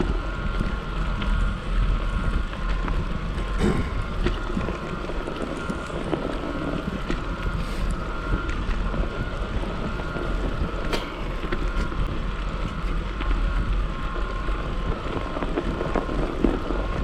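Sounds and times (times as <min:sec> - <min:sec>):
faint steady whine: 0:00.0 - 0:17.0
wind buffeting microphone: 0:00.0 - 0:17.0.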